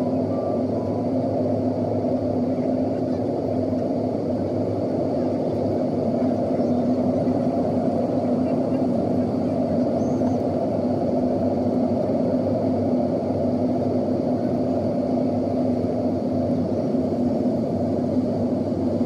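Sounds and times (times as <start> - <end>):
airplane cabin engine rush: 0.0 - 19.0
steady hum: 0.0 - 19.0.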